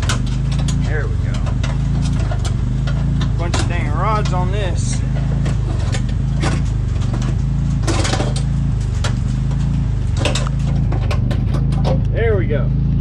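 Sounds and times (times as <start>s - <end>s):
metal door parts clicking and knocking: 0.0s - 12.1s
low mechanical hum: 0.0s - 13.0s.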